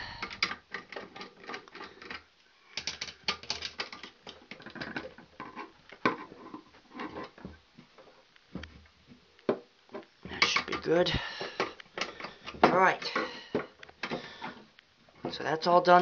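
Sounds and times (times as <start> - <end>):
small metal clicks and scraping: 0.2 - 8.8, 9.9 - 16.0.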